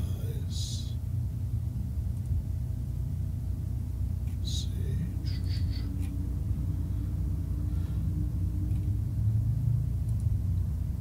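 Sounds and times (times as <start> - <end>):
faint constant hum: 0.0 - 11.0
low background rumble: 0.0 - 11.0.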